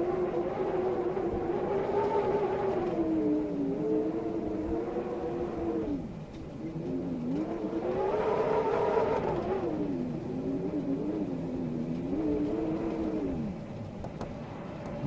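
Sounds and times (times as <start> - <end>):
wind howling in gusts: 0.0 - 15.0.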